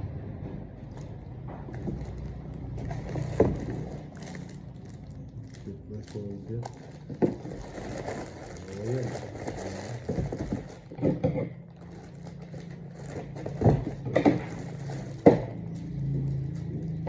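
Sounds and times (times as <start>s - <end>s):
plastic wrapping crinkling: 0.8s - 17.0s.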